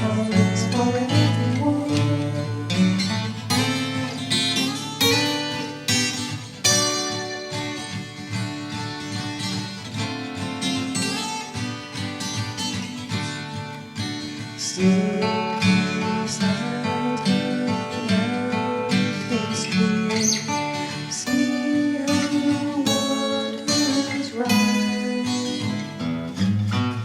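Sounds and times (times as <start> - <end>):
acoustic guitar picking: 0.0 - 27.0.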